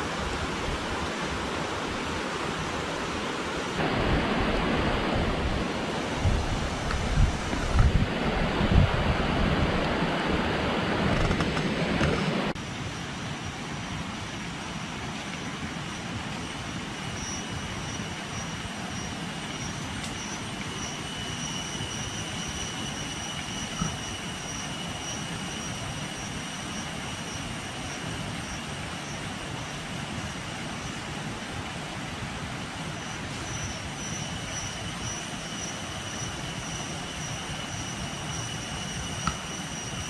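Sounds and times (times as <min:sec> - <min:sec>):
loud rushing wind noise: 0:00.0 - 0:40.0
steady hiss: 0:00.0 - 0:40.0.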